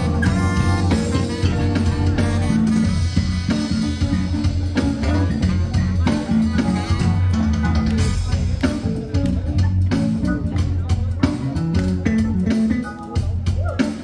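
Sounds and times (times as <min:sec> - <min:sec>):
bass guitar: 0:00.0 - 0:14.0
drum kit beat: 0:00.0 - 0:14.0
electric guitar: 0:00.0 - 0:14.0.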